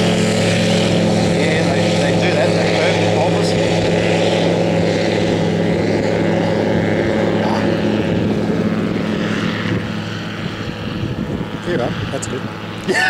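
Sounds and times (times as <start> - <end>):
propeller engine drone: 0.0 - 13.0.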